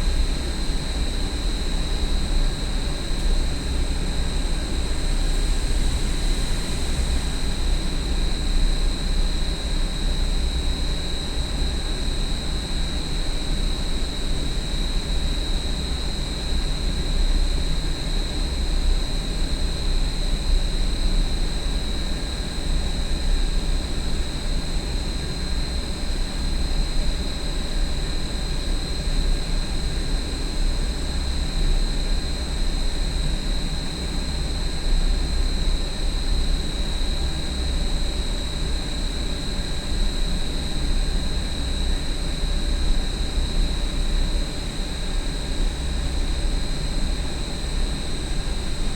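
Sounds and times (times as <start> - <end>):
high-pitched fan whine: 0.0 - 48.9
industrial exhaust fan rumble: 0.0 - 48.9.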